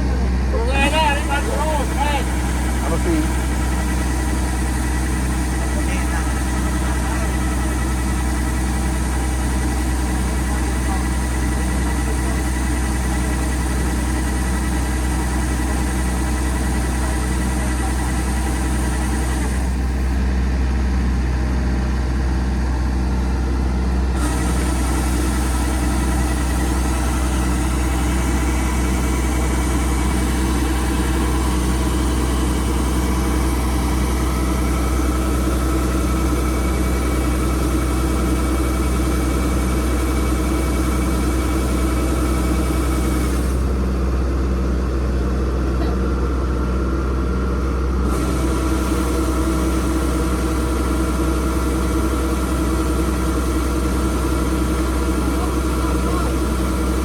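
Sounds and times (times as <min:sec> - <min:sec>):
engine humming steadily: 0:00.0 - 0:57.0.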